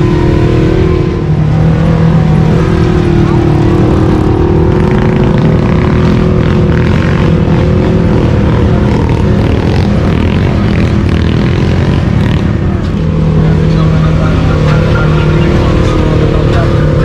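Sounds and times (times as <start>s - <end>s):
atv engine running hard: 0.0s - 17.0s.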